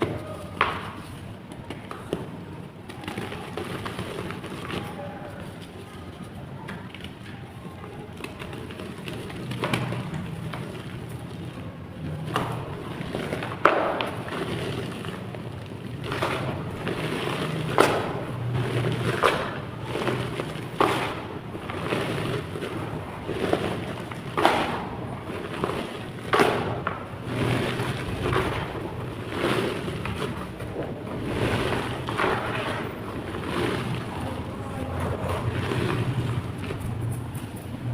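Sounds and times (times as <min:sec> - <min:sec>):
clay crunching cracks: 0:00.0 - 0:37.8
gritty crumbling: 0:00.0 - 0:37.9.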